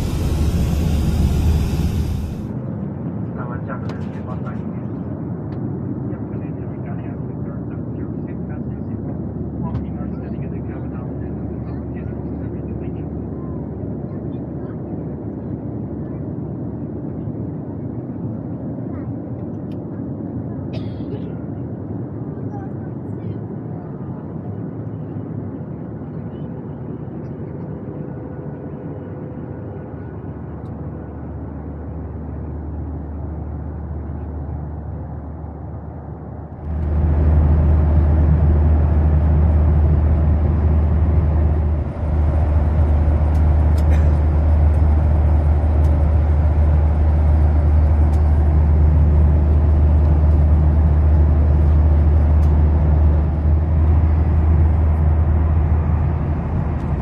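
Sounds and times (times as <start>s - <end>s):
jet engines droning: 0.0s - 14.0s, 23.4s - 57.0s
rushing airflow in cabin: 0.0s - 57.0s.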